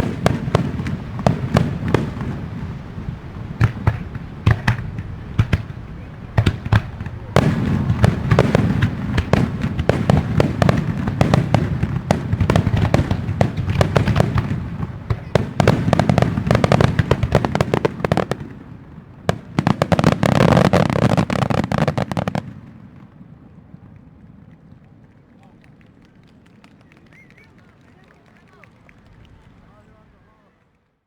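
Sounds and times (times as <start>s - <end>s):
fireworks bursting with sharp cracks: 0.0s - 25.1s.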